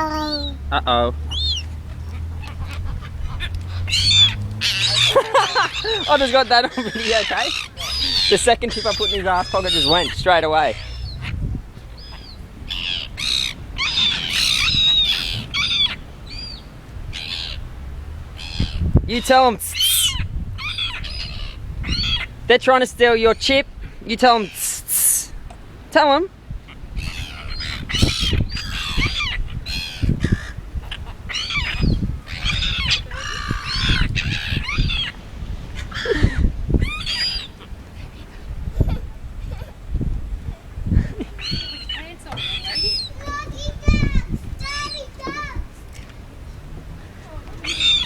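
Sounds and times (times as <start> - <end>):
seagulls squawking: 0.1 - 22.4, 26.7 - 39.8, 40.9 - 45.6, 47.5 - 48.0.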